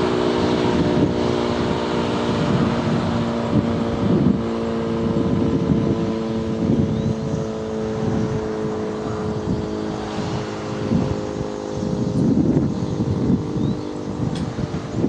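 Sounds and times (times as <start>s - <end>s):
dual-tone warning siren: 0.0s - 15.0s
wind buffeting microphone: 0.0s - 15.0s.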